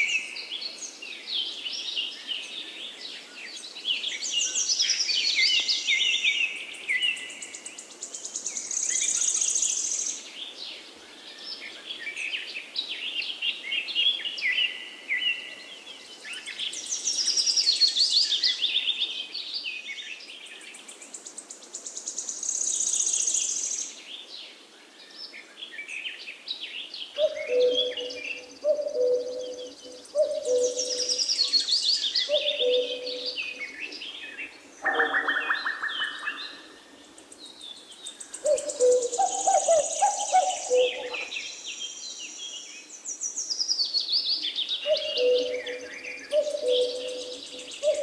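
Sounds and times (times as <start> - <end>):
songbirds chirping and warbling: 0.0 - 48.0.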